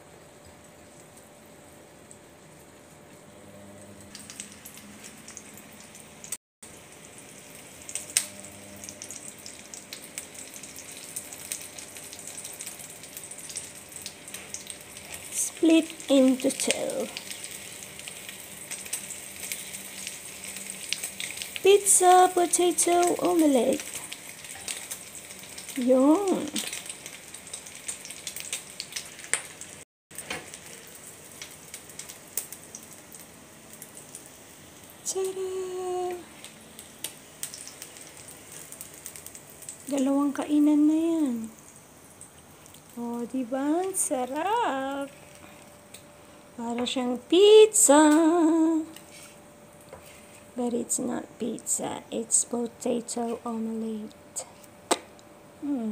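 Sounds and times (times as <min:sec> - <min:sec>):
omelette sizzling in a frying pan: 0:04.0 - 0:55.9.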